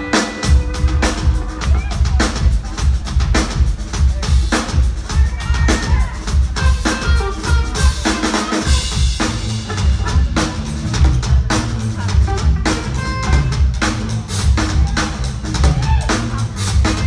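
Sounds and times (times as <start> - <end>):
drum kit beat: 0.0 - 17.0
live band playing: 0.0 - 17.0.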